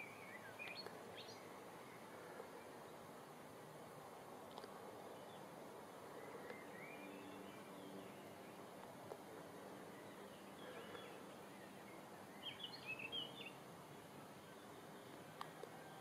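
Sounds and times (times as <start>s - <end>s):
bird chirping: 0.0s - 3.0s, 5.1s - 16.0s
faint outdoor background noise: 0.0s - 16.0s.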